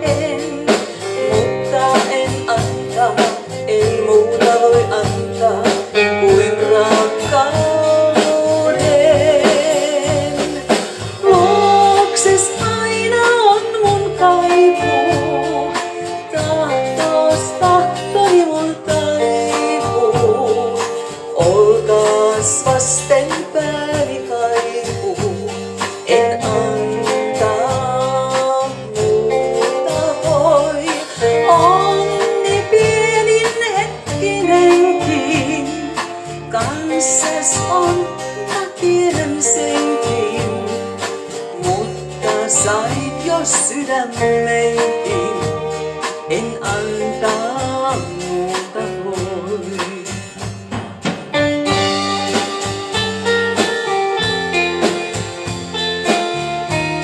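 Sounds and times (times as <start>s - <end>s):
woman singing: 0.0s - 50.7s, 51.3s - 57.0s
bass line: 0.0s - 57.0s
drum kit: 0.0s - 57.0s
electric and acoustic guitars: 0.0s - 57.0s.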